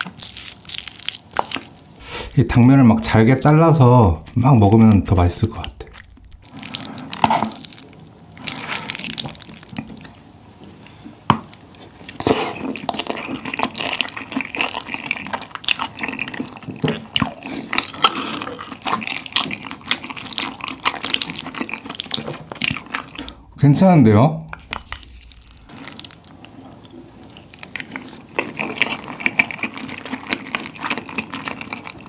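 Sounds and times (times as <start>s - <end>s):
wet chewing and mouth smacking: 0.0s - 2.4s, 3.8s - 23.5s, 24.5s - 32.0s.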